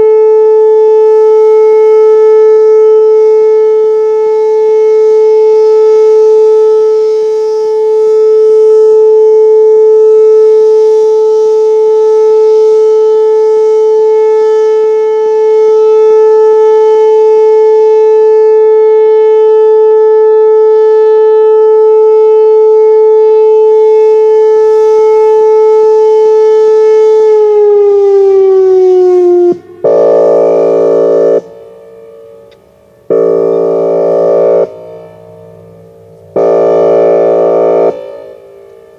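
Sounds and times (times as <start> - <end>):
harsh air horn blasts: 0.0 - 38.9
warning siren steady tone: 0.0 - 38.9.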